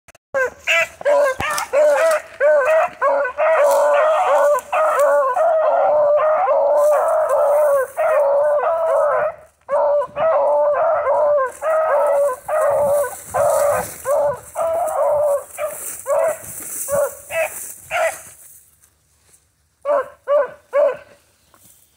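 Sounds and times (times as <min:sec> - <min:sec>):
hounds baying: 0:00.4 - 0:18.3, 0:19.8 - 0:21.2.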